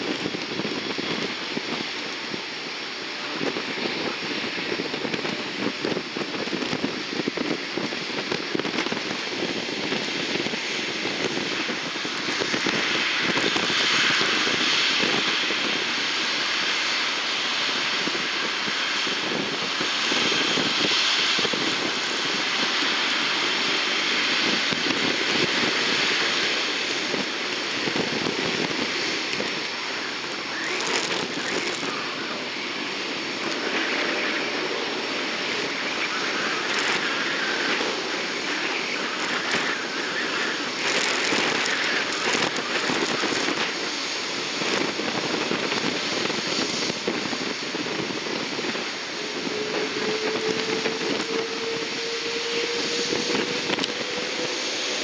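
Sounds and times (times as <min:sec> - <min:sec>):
airplane engines running: 0:00.0 - 0:55.0.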